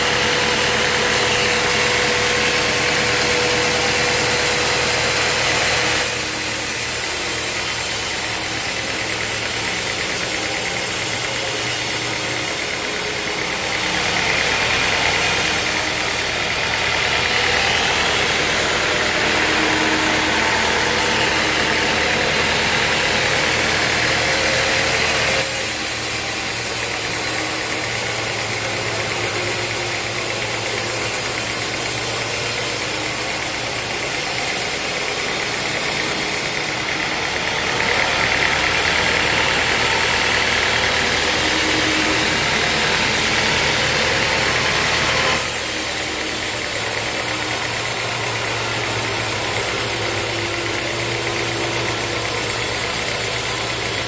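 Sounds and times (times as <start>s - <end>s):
loud saw hiss: 0.0s - 54.0s
sawmill motor hum: 0.0s - 54.0s.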